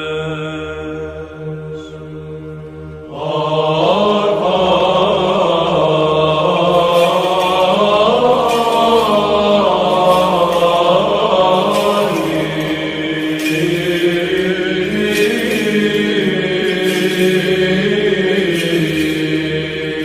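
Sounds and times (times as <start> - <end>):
voices chanting over a drone: 0.0 - 20.0.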